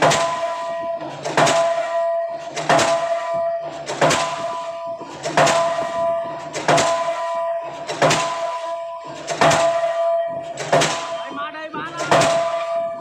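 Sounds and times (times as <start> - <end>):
pile hammer blows: 0.0 - 13.0
steady ringing tone: 0.0 - 13.0.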